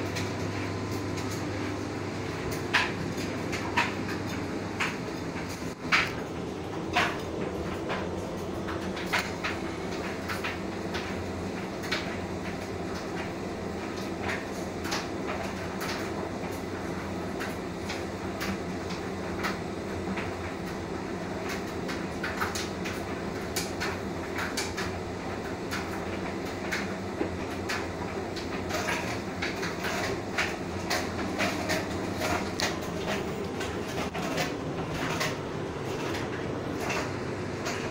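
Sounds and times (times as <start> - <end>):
tumble dryer motor and drum hum: 0.0 - 37.9.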